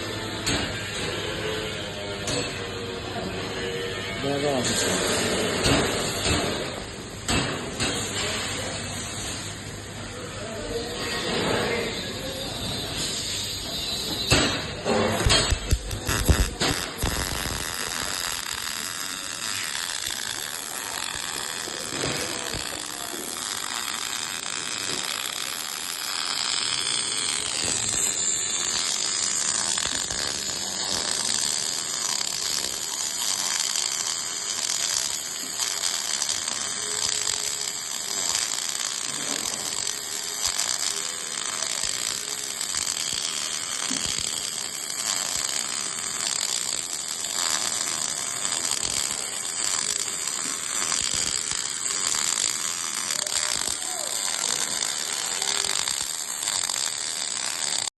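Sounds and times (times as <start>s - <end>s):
welding arc crackling: 0.0s - 2.8s, 3.6s - 9.8s, 10.6s - 58.0s.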